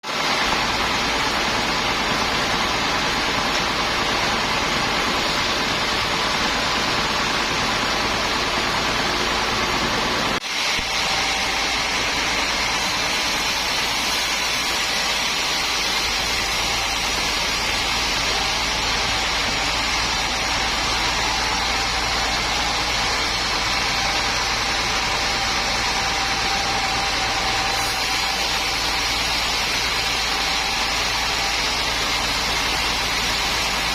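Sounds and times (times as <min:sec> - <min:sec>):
sawmill machinery running: 0:00.0 - 0:33.9.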